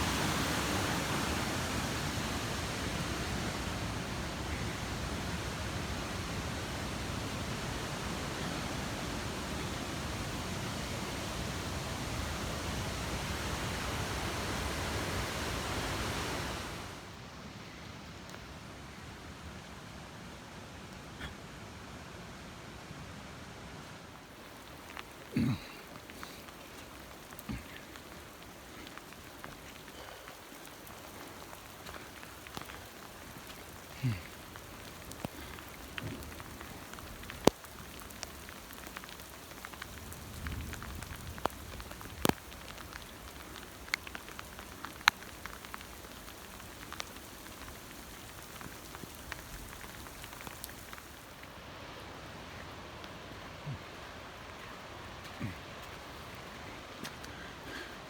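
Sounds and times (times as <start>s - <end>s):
rain hissing: 0.0s - 58.0s.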